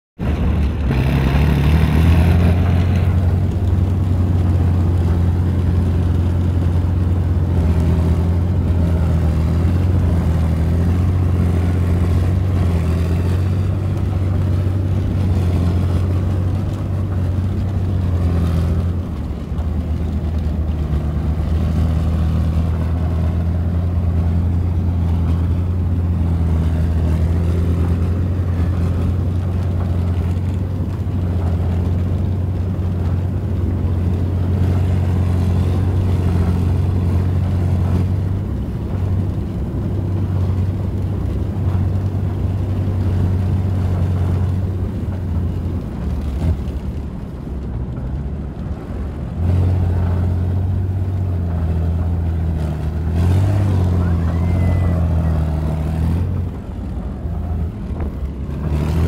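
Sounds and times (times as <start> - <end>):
diesel engine droning: 0.2 - 59.0.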